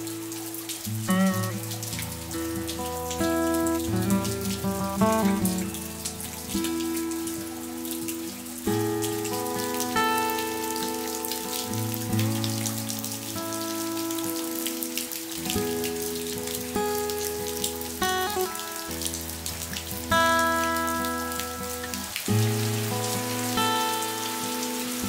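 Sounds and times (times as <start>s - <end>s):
rain falling: 0.0s - 25.0s
raindrops ticking: 0.0s - 25.0s
soft music with held notes: 0.0s - 25.0s.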